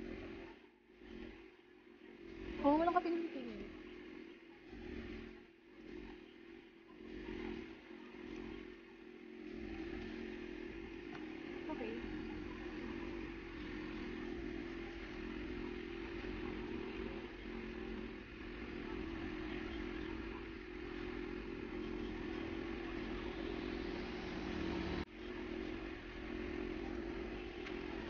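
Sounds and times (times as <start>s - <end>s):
low droning hum: 0.0s - 28.0s.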